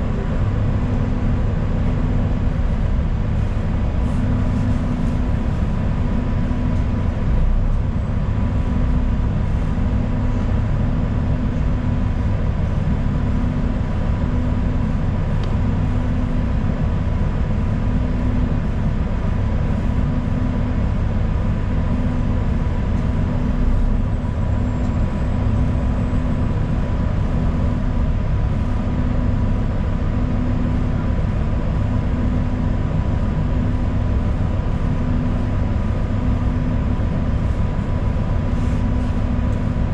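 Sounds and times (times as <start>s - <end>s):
bus engine rumble from inside: 0.0s - 39.9s.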